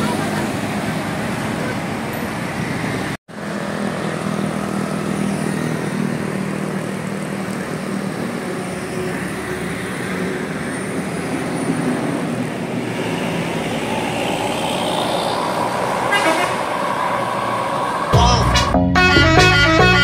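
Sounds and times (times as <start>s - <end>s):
bus diesel engine running: 0.0s - 20.0s
outdoor traffic noise: 0.0s - 20.0s.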